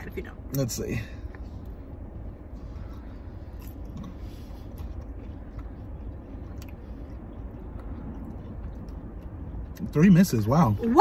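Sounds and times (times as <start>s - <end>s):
car cabin rumble: 0.0s - 11.0s
person chewing fries: 1.3s - 10.6s.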